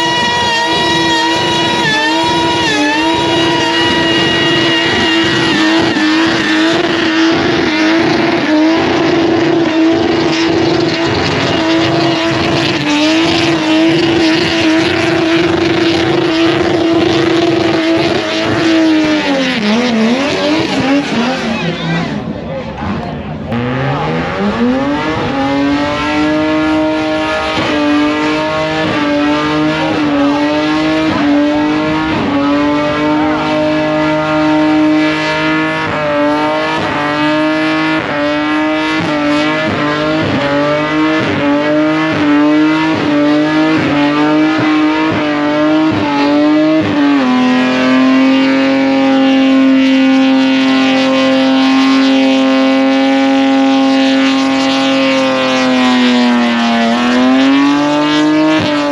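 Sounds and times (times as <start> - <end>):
car engine revving high: 0.0 - 58.9.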